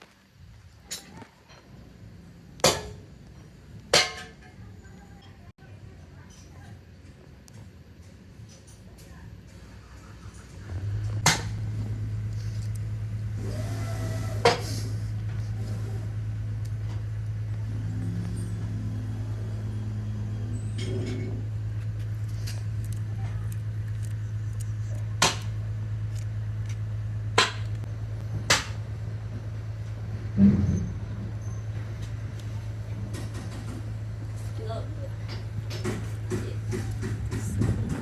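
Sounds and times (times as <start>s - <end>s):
factory machinery humming: 6.8s - 38.0s.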